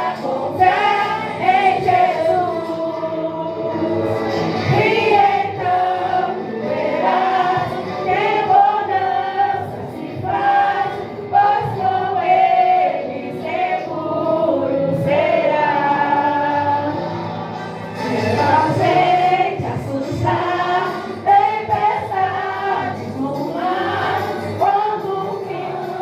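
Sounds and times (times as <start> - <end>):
group singing in chorus: 0.0 - 26.0
musical accompaniment: 0.0 - 26.0.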